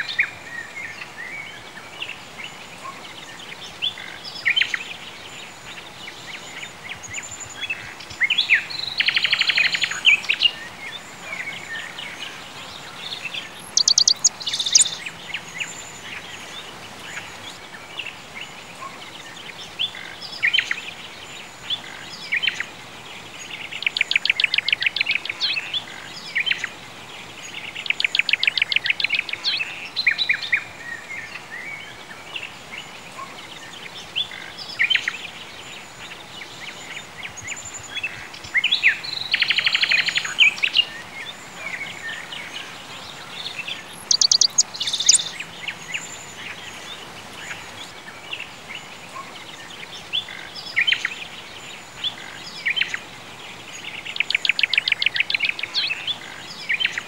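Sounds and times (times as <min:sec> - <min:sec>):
faint steady hiss: 0:00.0 - 0:57.0
songbirds singing: 0:00.0 - 0:57.0.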